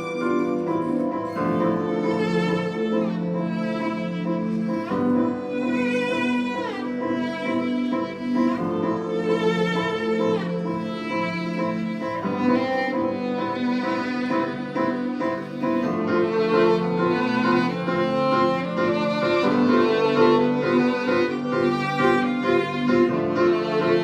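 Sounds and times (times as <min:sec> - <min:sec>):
cello held low notes: 0:00.0 - 0:24.0
violin melody: 0:00.0 - 0:24.0.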